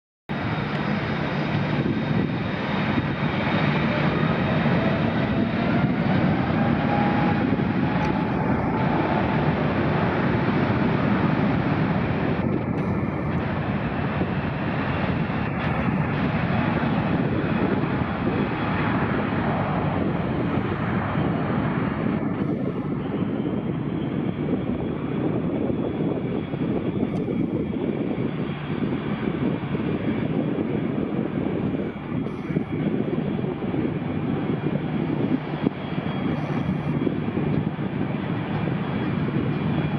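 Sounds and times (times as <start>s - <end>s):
jet airliner taking off: 0.3s - 39.9s.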